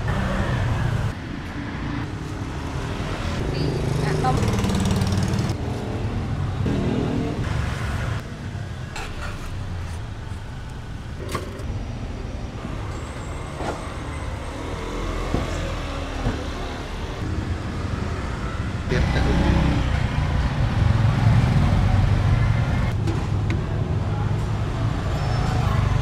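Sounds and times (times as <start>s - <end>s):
rumble of passing vehicles: 0.0s - 26.0s.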